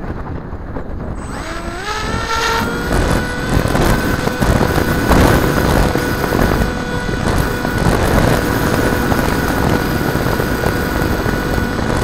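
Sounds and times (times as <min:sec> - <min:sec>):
electric motor and propeller whine: 0:00.0 - 0:12.0
wind noise: 0:00.0 - 0:12.0.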